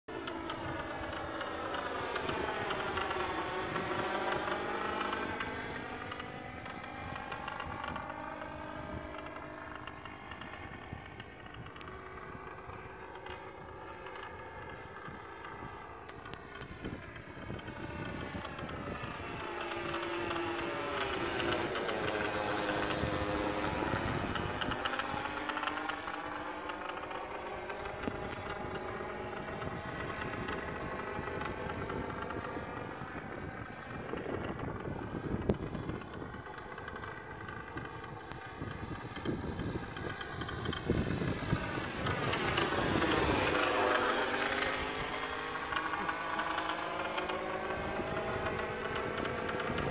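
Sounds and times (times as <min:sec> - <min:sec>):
model plane engine droning: 0:00.0 - 0:49.9.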